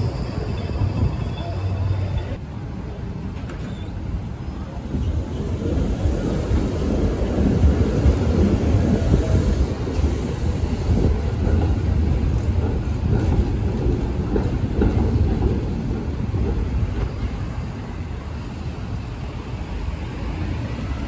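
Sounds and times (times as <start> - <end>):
tram wheels rumbling on rails: 0.0 - 21.0.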